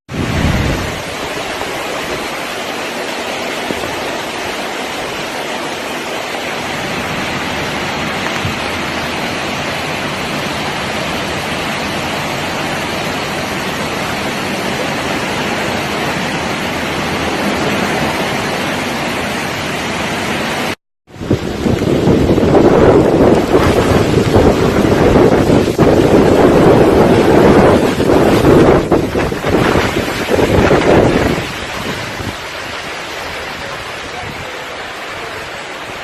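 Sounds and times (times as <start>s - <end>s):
heavy water rushing: 0.1s - 36.0s.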